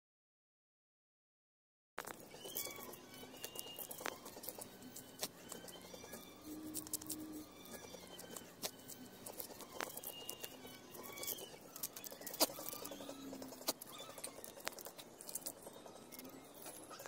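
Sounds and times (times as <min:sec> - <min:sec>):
sharp clicks and ticks: 0:02.0 - 0:17.0
bird chirps: 0:02.2 - 0:17.0.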